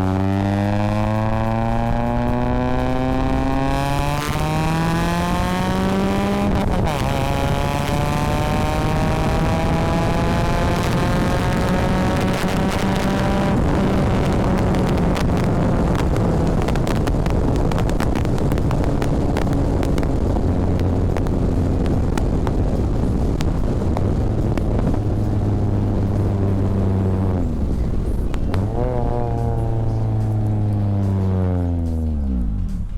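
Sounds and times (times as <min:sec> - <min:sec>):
car engine and exhaust: 0:00.0 - 0:32.9
road and wind noise: 0:00.0 - 0:32.9.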